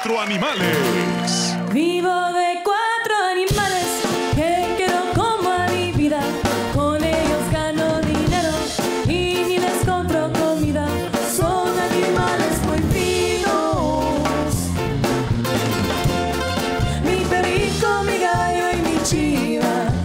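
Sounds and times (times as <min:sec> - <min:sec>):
band with bass guitars and drums: 0:00.6 - 0:01.9, 0:03.5 - 0:20.0
woman singing into a microphone: 0:01.7 - 0:14.7, 0:16.9 - 0:20.0.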